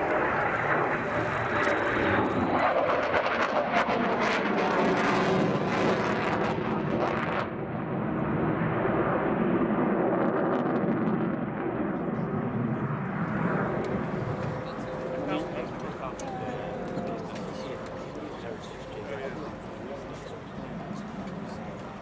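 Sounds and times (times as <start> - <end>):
jet engine roar overhead: 0.0 - 22.0.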